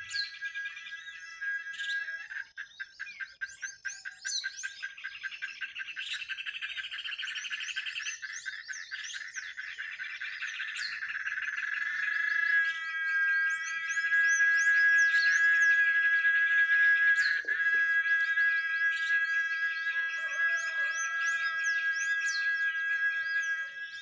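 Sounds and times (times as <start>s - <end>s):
whistled bird glides: 0.0s - 5.1s, 5.8s - 24.0s
birds chirping: 0.0s - 24.0s.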